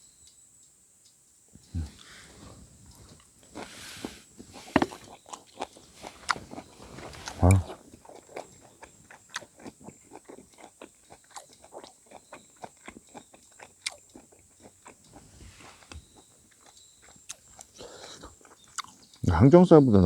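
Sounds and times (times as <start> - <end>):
person chewing food: 1.6 - 19.2.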